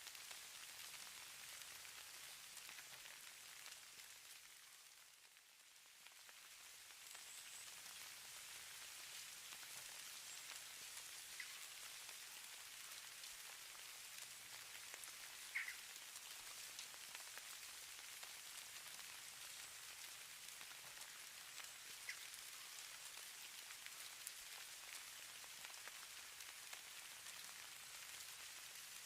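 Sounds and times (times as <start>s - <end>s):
falling snow hiss and patter: 0.0s - 29.0s.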